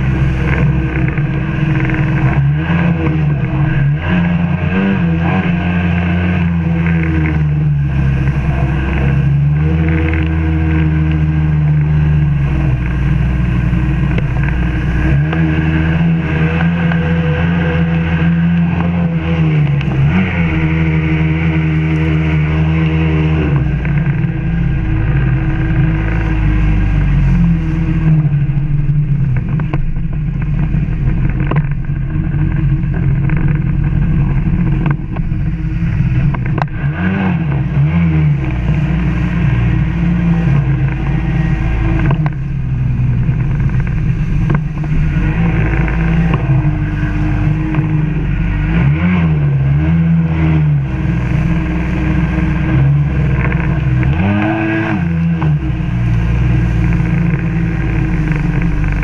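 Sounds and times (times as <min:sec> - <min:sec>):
personal watercraft engine running: 0:00.0 - 0:59.0.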